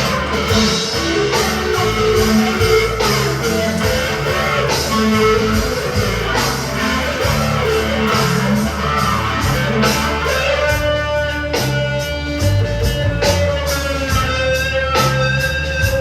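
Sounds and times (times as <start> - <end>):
fuzzed electric guitar lead: 0.0 - 16.0.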